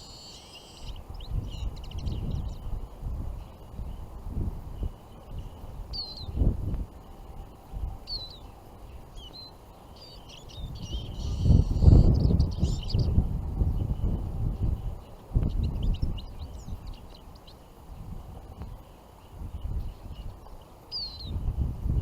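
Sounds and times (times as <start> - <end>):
songbirds chirping: 0.0 - 22.0
wind buffeting microphone: 0.8 - 9.3, 10.0 - 22.0.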